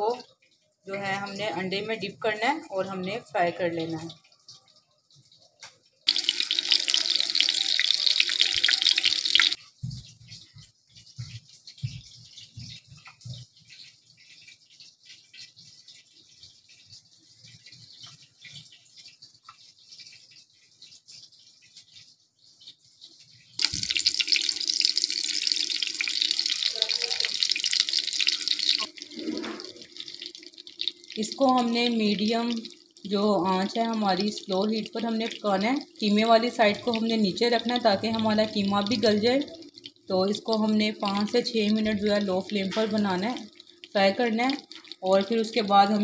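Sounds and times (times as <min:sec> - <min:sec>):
kebabs sizzling in hot oil: 0:00.0 - 0:46.0.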